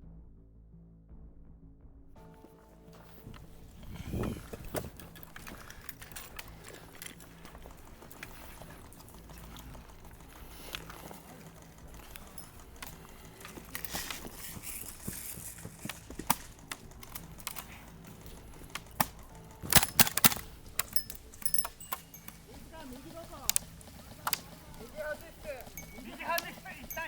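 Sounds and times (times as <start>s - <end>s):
rustling steps through undergrowth: 2.2s - 27.0s
twigs clicking and snapping: 2.9s - 26.9s.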